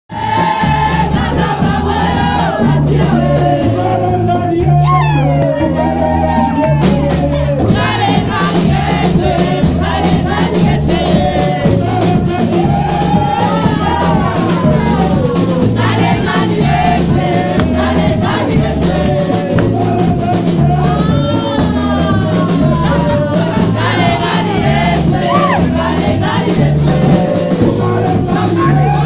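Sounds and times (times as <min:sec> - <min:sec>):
band playing steady beat: 0:00.1 - 0:29.0
women singing into microphones: 0:00.1 - 0:29.0.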